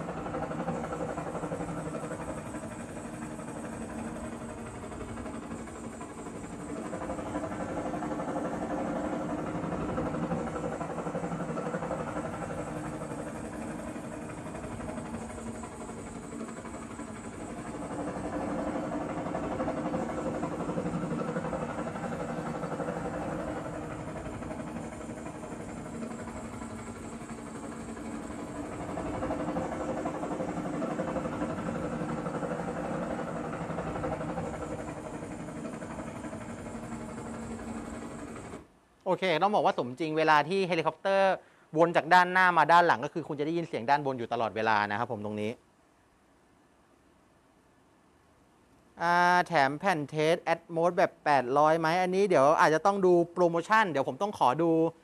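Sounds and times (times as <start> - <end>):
helicopter rotor and engine: 0.0 - 45.4, 51.6 - 55.0.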